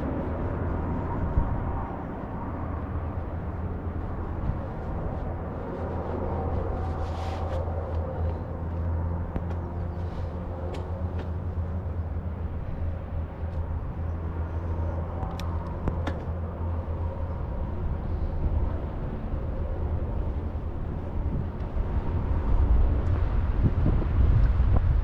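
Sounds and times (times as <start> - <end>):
wind and road rumble: 0.0 - 25.0.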